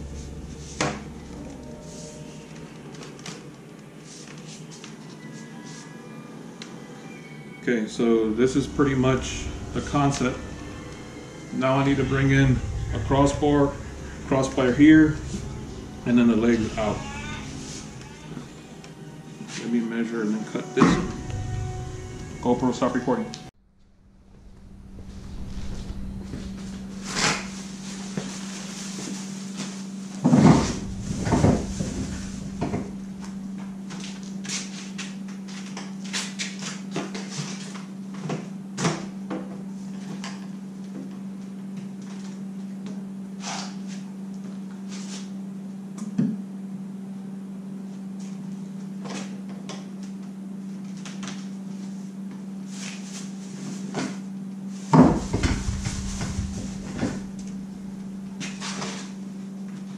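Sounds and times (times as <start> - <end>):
steady hum: 0.0 - 5.2, 6.0 - 59.9.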